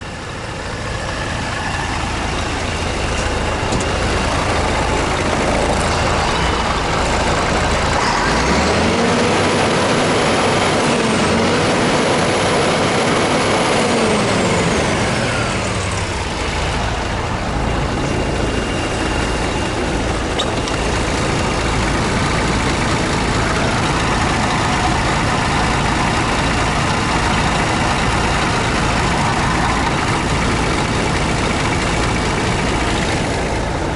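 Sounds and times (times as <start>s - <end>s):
diesel truck engine revving: 0.0s - 33.9s.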